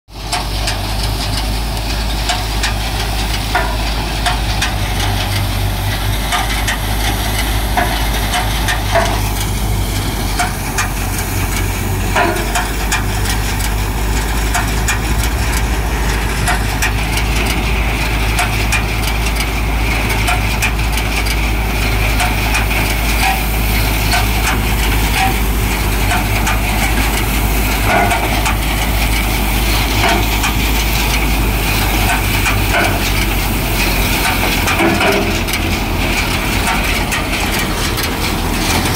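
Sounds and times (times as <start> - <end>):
combine harvester engine drone: 0.1 - 38.9
machinery knocks and crackles: 0.2 - 38.9.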